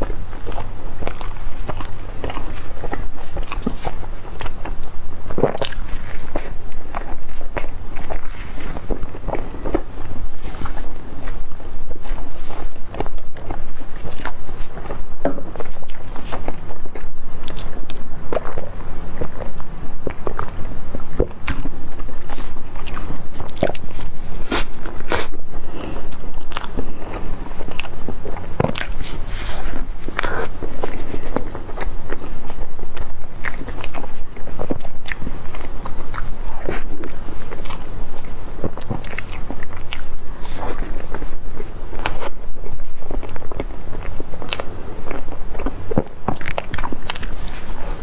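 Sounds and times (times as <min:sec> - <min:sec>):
person chewing pastry: 0:00.0 - 0:48.0.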